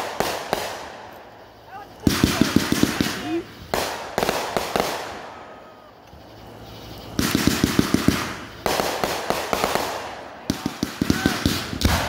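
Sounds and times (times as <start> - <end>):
fireworks pops and bangs: 0.0 - 12.0.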